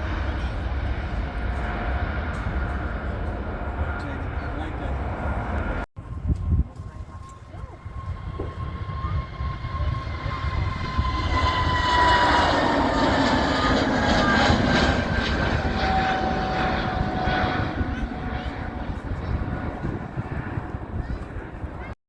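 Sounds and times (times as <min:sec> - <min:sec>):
jet airliner passing: 0:00.0 - 0:22.0.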